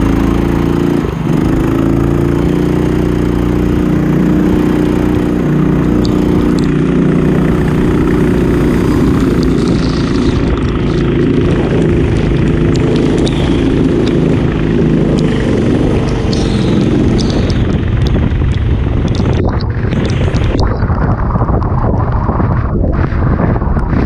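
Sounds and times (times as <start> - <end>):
racing kart engine running: 0.0 - 24.0
wind buffeting microphone: 0.0 - 24.0.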